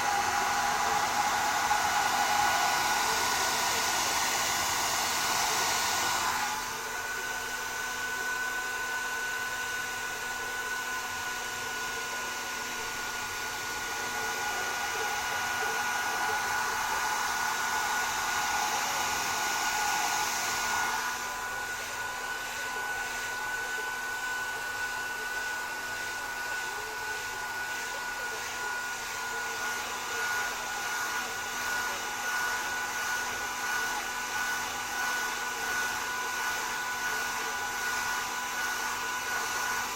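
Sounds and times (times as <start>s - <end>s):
hair dryers blowing air: 0.0s - 39.9s.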